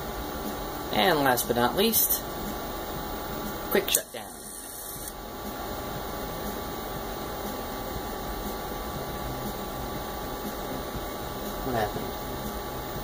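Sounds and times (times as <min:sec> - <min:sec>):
computer equipment hum and hiss: 0:00.0 - 0:13.0.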